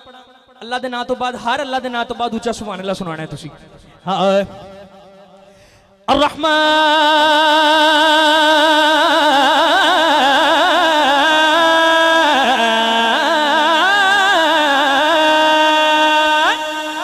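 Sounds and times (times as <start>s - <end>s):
man singing through loudspeakers: 0.0s - 4.9s, 6.1s - 17.0s.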